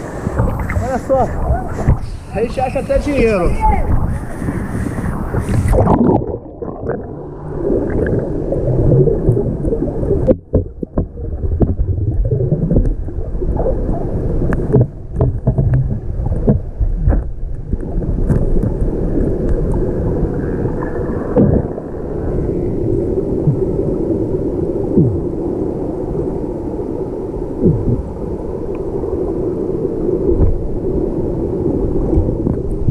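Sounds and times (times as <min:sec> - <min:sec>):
churning water underwater rumble: 0:00.0 - 0:32.9
water gurgles: 0:00.0 - 0:32.9.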